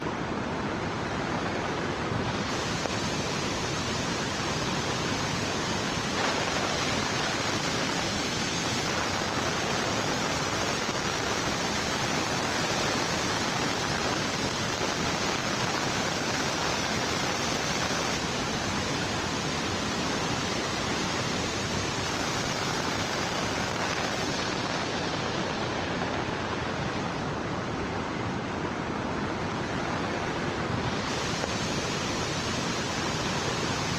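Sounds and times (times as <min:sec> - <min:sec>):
floodwater flowing: 0:00.0 - 0:33.9
heavy rain: 0:00.0 - 0:33.9.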